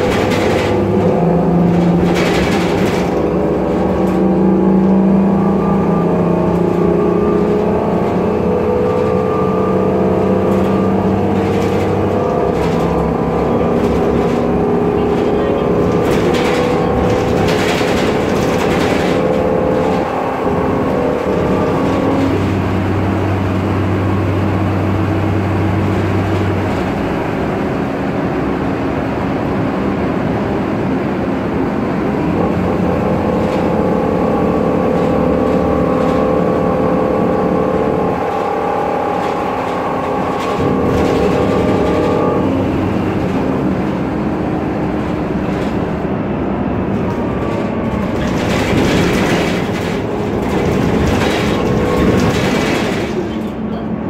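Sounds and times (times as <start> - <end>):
road and body noise: 0.0 - 28.3, 30.8 - 54.0
bus engine running: 0.0 - 54.0.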